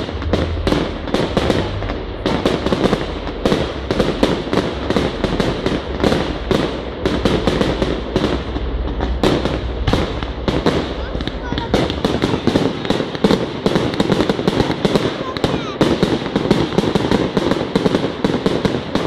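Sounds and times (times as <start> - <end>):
fireworks shells bursting: 0.0 - 19.0.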